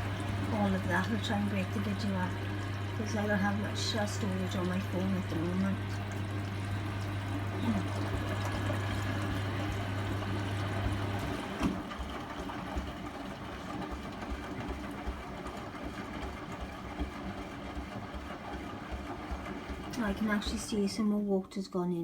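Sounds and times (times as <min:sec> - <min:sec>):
washing machine drum churning: 0:00.0 - 0:21.4
water running in: 0:00.0 - 0:21.4
washing machine hum: 0:00.0 - 0:22.0.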